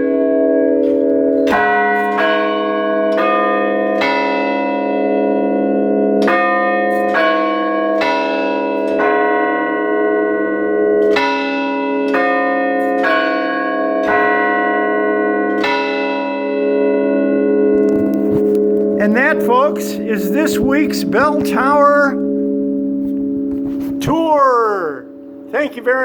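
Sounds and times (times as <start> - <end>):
church bells chiming a slow melody: 0.0 - 26.0.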